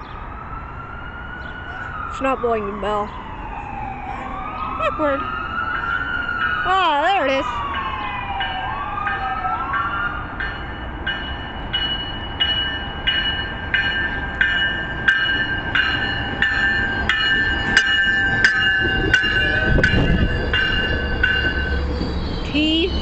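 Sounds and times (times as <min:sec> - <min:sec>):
train rumbling: 0:03.1 - 0:23.0
locomotive bell ringing: 0:04.2 - 0:23.0.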